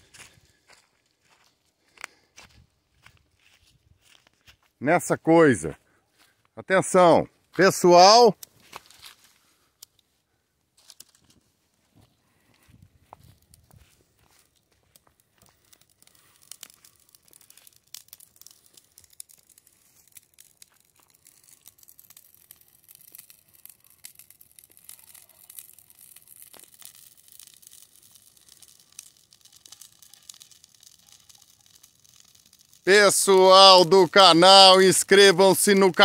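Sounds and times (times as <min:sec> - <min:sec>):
fire crackling and popping: 0:00.0 - 0:06.4, 0:07.0 - 0:36.0.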